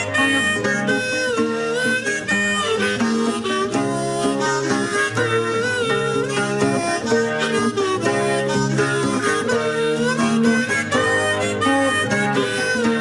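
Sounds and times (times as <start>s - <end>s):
harmonica playing melody: 0.0s - 13.0s
strummed acoustic guitar: 0.0s - 13.0s.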